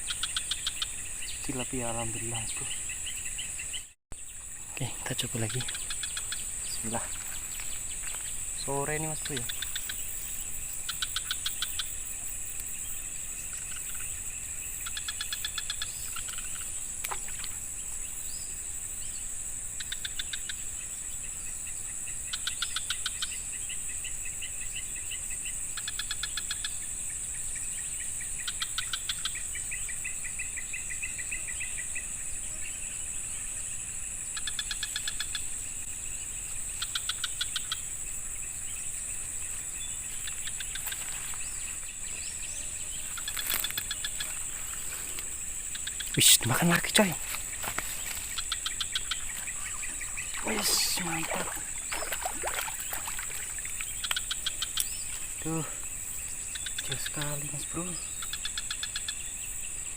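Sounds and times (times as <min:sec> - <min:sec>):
high-pitched insect drone: 0:00.0 - 0:59.9
rapid pulsing insect calls: 0:00.0 - 0:59.9.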